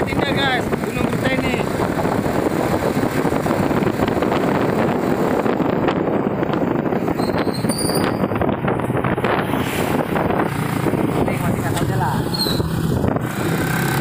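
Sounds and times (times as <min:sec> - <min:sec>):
motorbike tyre and road noise: 0:00.0 - 0:14.0
wind on microphone: 0:00.0 - 0:14.0.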